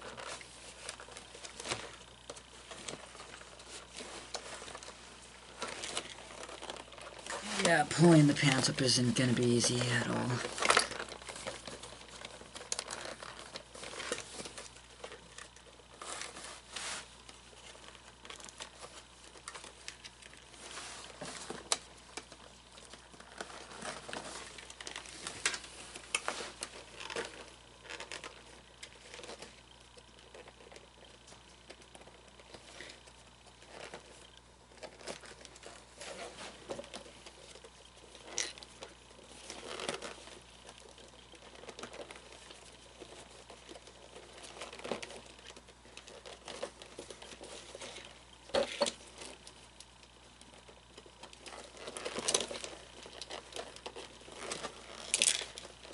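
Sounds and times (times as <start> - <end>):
cloth rustling and scraping: 0.0 - 8.9, 9.8 - 55.9.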